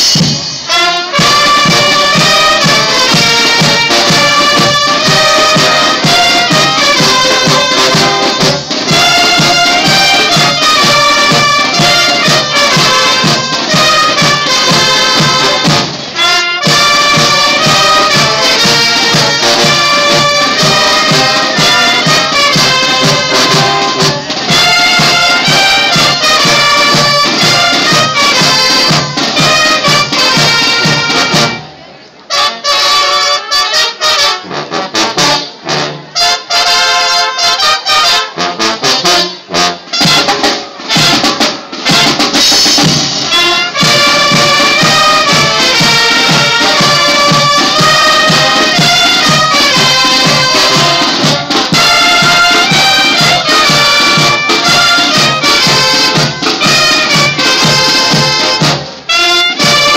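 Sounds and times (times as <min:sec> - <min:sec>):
brass band playing: 0:00.0 - 0:59.9.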